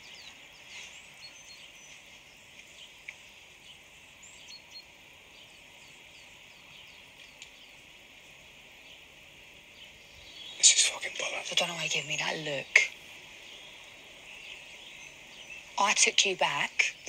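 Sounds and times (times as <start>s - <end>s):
small birds chirping: 0.0s - 17.0s
steady hiss: 0.0s - 17.0s.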